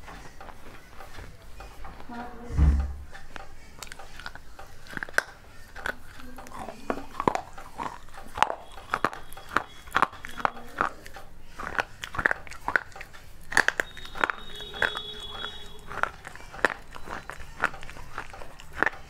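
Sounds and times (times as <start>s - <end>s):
person chewing crunchy clay: 0.0s - 2.1s, 3.0s - 19.0s.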